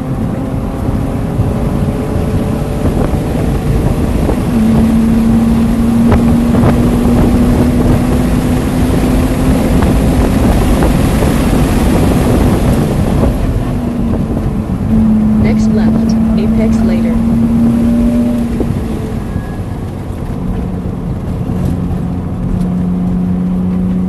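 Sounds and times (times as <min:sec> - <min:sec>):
car engine accelerating hard: 0:00.0 - 0:24.0
wind and road noise: 0:00.0 - 0:24.0.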